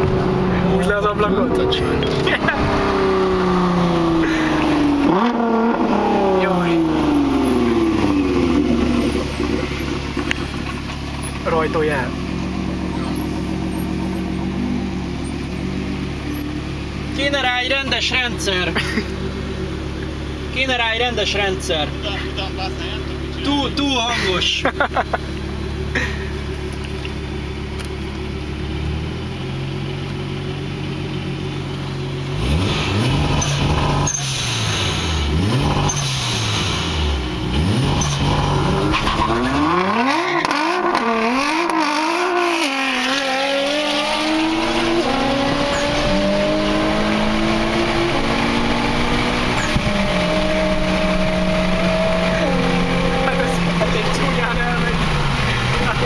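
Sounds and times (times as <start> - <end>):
car engine revving and accelerating: 0.0 - 30.6, 31.5 - 56.0.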